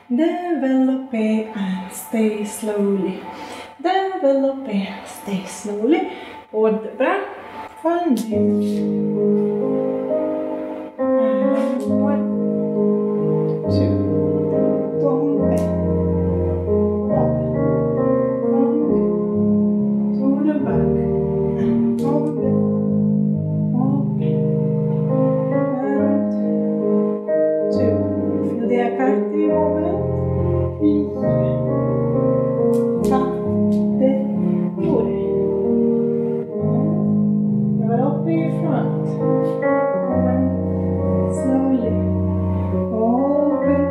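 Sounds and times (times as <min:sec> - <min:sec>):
slow piano music: 0:00.0 - 0:43.9.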